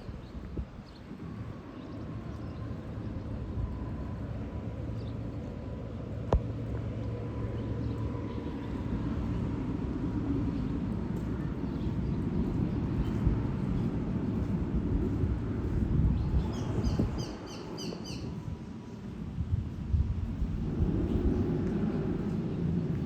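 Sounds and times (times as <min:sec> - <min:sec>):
low rumble of distant engines: 0:00.0 - 0:23.0.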